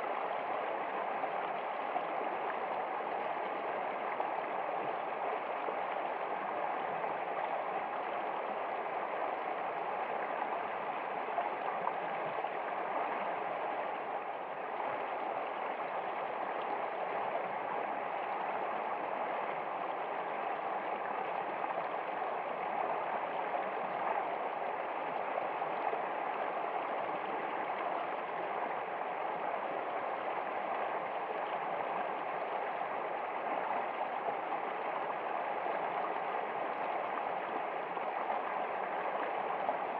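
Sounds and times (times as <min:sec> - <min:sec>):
stream of flowing water: 0:00.0 - 0:39.9.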